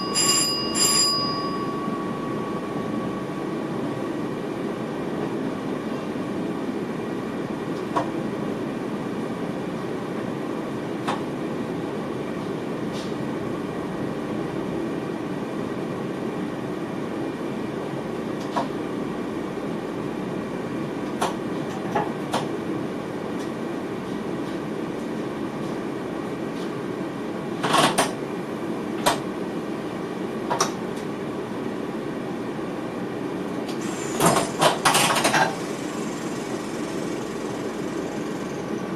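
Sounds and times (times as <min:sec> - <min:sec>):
train cab hum: 0:00.0 - 0:38.9.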